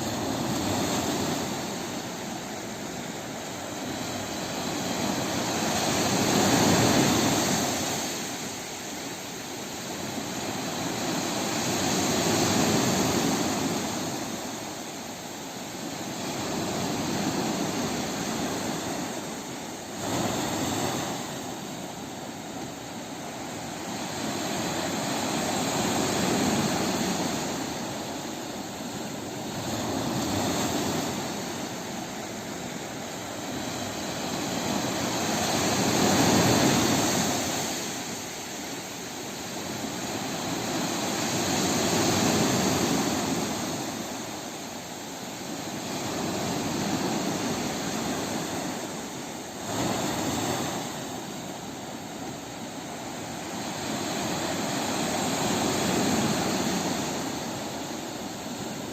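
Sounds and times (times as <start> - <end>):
sea waves washing in: 0.0 - 58.9.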